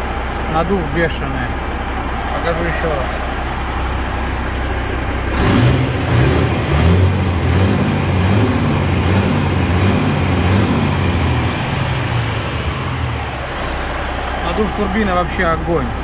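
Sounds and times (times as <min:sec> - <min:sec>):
truck diesel engine revving: 0:00.0 - 0:16.0
turbocharger: 0:00.0 - 0:16.0.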